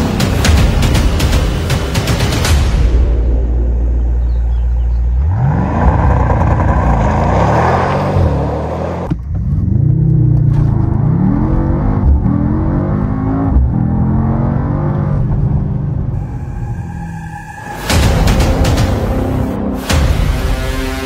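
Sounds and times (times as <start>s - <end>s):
car engine revving: 3.3s - 21.0s.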